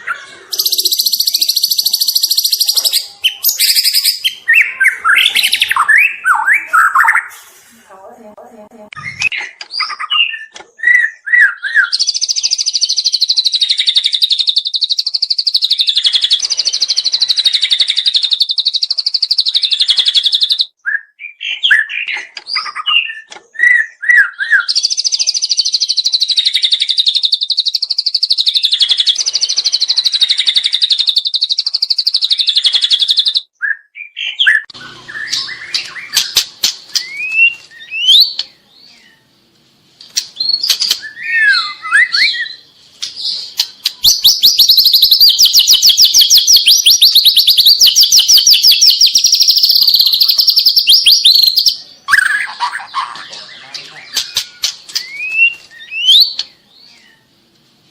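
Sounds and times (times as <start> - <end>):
bird whistling and trilling: 0.0 - 7.3, 9.0 - 39.2, 40.4 - 57.2.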